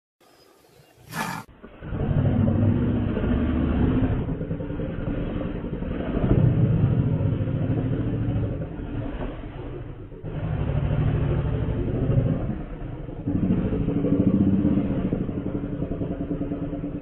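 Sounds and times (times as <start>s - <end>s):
big cats growling: 0.8s - 17.0s.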